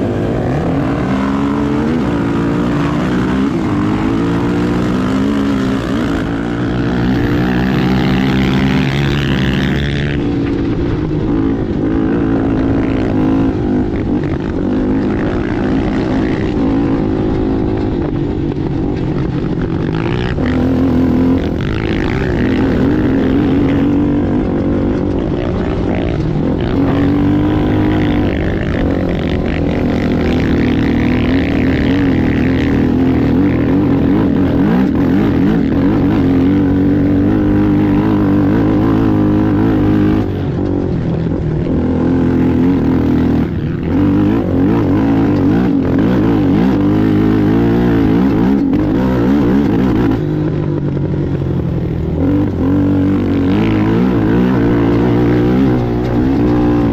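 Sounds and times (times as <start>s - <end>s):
atv engine running hard: 0.0s - 56.9s.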